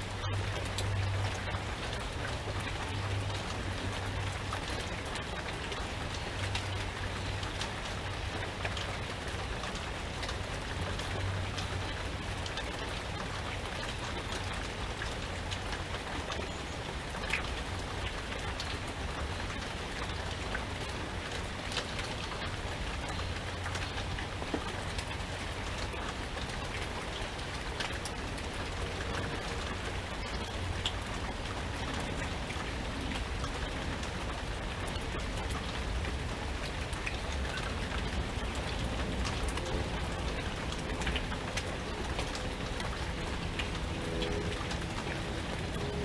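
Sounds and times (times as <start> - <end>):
steady rain hiss: 0.0 - 46.0.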